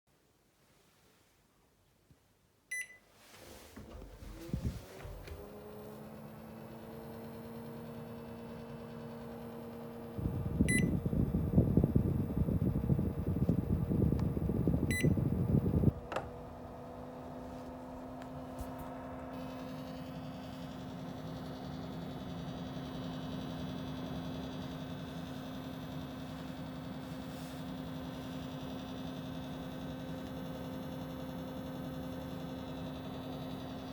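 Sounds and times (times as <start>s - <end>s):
air conditioner humming: 2.5s - 33.9s.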